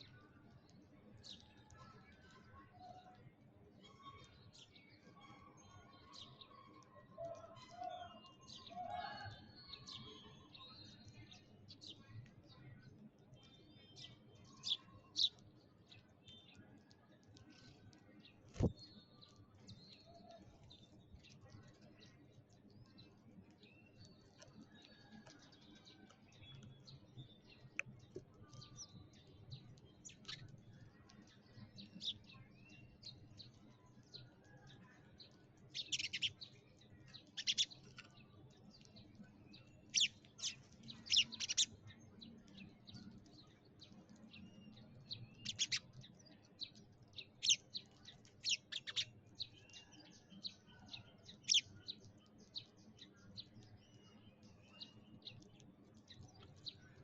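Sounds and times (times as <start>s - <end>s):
sparrows chirping: 3.8s - 57.0s.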